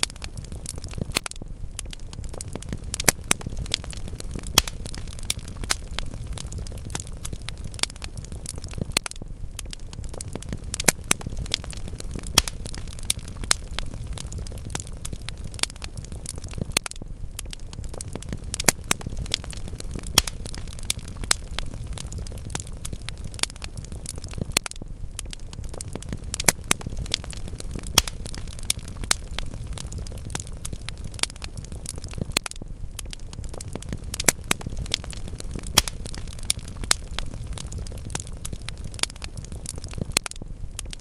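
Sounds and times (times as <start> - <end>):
fire rumbling in fireplace: 0.0 - 41.0
logs crackling and popping: 0.0 - 41.0.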